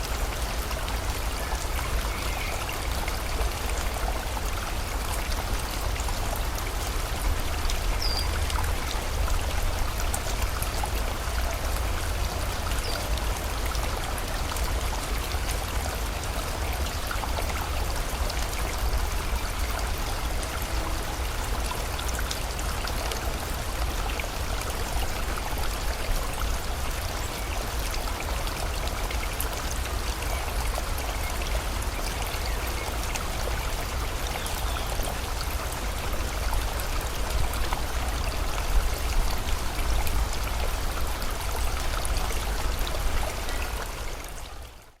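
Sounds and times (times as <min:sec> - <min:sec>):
small water drips: 0:00.0 - 0:45.0
stream flowing: 0:00.0 - 0:45.0.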